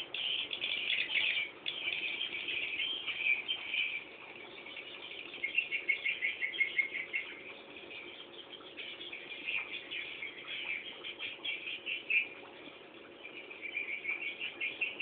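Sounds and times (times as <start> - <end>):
chicks twittering: 0.0 - 15.0.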